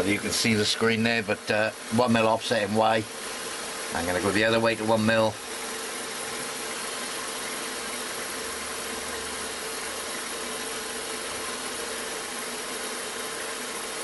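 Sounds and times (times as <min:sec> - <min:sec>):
milling machine spindle running: 0:00.0 - 0:14.0.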